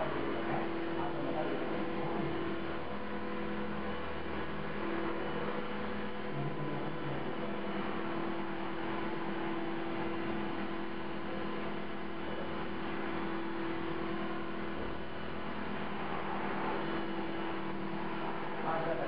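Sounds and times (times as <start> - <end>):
rc helicopter buzzing hum: 0.0 - 19.0.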